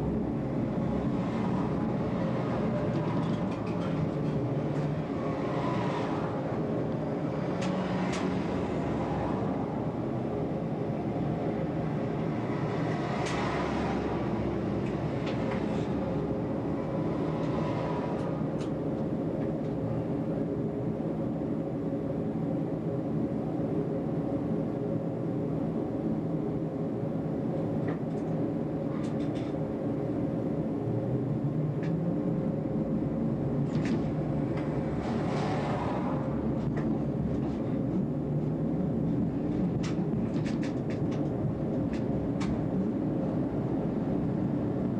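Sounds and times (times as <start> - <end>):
constant whine: 0.0 - 44.9
tram motors and wheels rumbling: 0.0 - 44.9.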